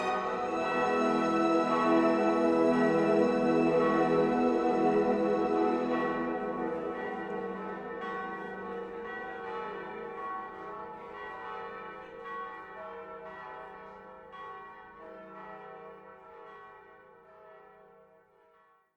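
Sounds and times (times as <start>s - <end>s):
church bells ringing: 0.0s - 18.6s.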